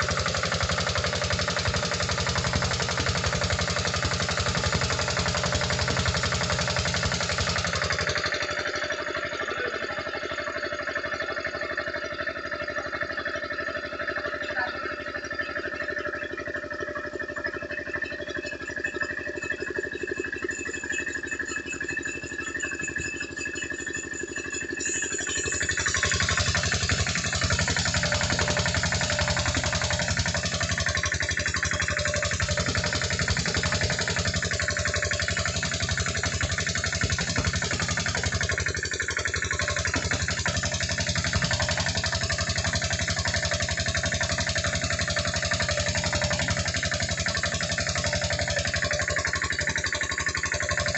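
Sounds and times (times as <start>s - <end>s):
sawmill saw whining: 0.0s - 50.9s.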